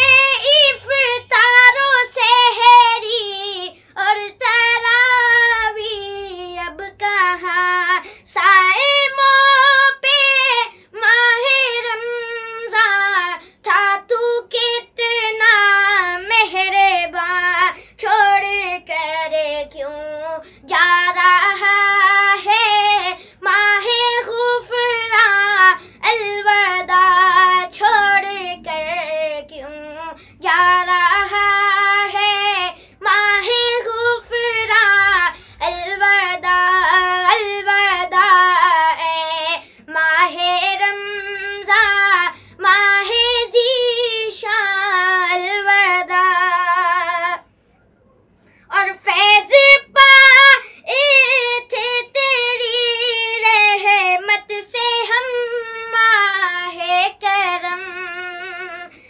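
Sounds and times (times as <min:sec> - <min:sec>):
boy singing: 0:00.0 - 0:47.5, 0:48.7 - 0:59.0.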